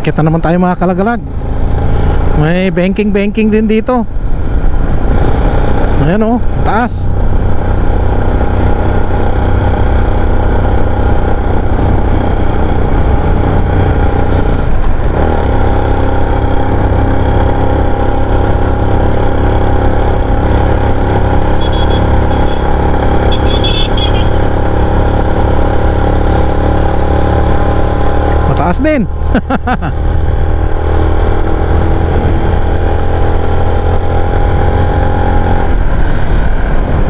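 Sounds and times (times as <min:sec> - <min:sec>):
motorcycle engine running: 0:01.2 - 0:37.0.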